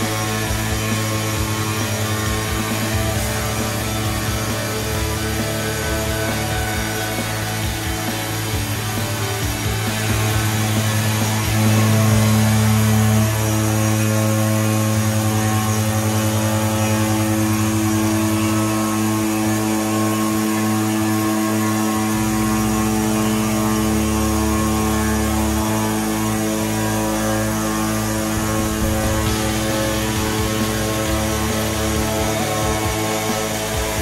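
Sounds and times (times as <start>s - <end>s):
low machine rumble: 0.0s - 34.0s
stone router spindle whine: 0.0s - 34.0s.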